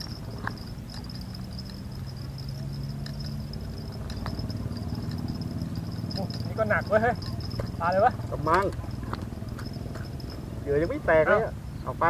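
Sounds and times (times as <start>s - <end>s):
insects chirring: 0.0s - 11.0s
low steady hum: 0.0s - 11.9s.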